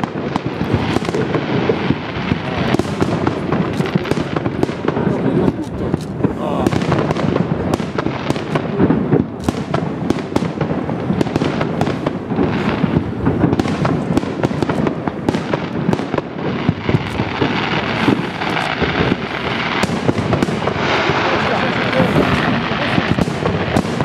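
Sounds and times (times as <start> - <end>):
firework shells bursting: 0.0 - 24.0.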